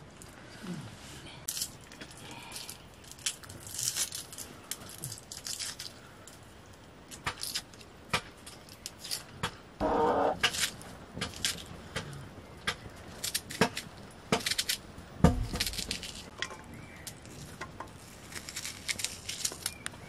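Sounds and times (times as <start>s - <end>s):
onion skin crackling and tearing: 1.5s - 9.4s, 10.1s - 12.0s, 12.7s - 20.0s.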